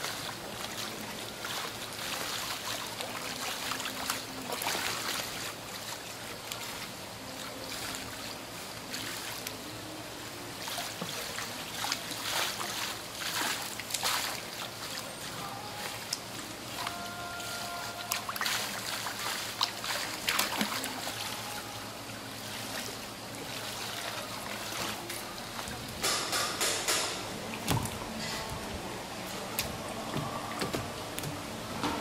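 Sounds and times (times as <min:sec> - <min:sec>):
trickle of running water: 0:00.0 - 0:26.1
water splashing in fish tank: 0:00.0 - 0:32.0.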